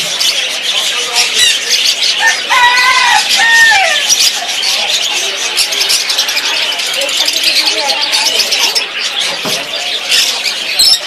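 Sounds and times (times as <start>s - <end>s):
birds chirping and screeching: 0.0s - 11.0s.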